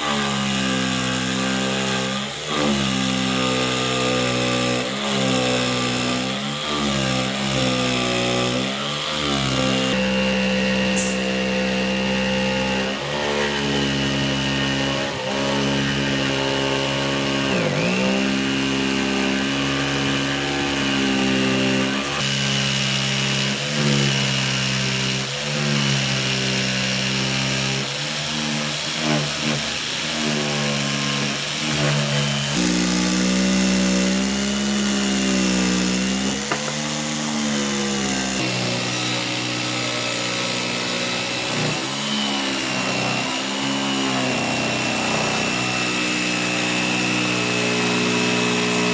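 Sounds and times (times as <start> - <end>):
power tool motor whining: 0.0 - 48.9.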